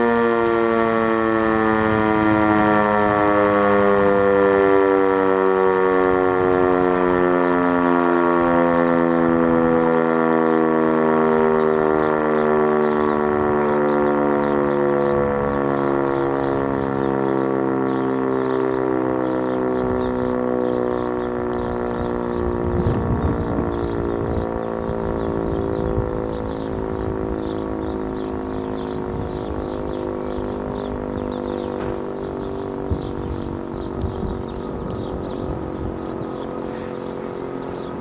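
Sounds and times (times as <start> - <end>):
electro-mechanical siren falling in pitch: 0.0 - 38.0.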